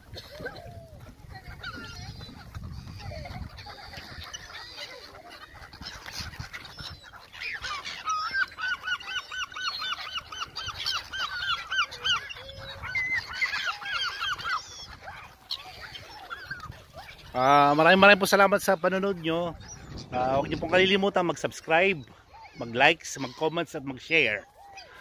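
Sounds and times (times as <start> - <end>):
gulls calling: 0.0 - 25.0.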